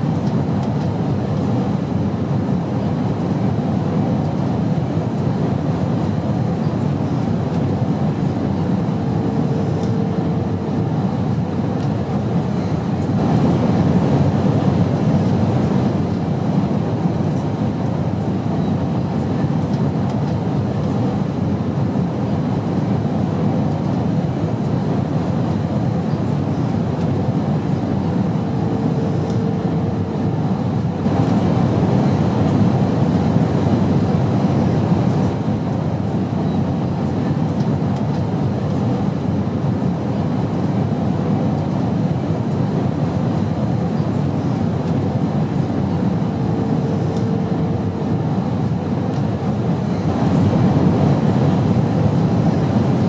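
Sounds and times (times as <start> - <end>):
airplane engine drone: 0.0 - 53.0.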